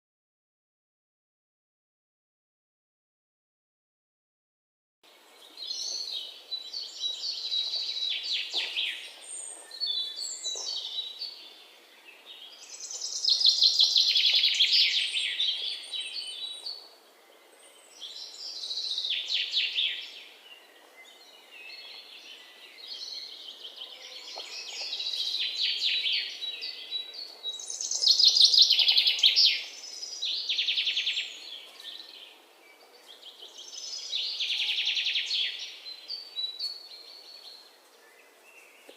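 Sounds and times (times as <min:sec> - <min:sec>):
songbirds chirping: 0:05.0 - 0:38.9.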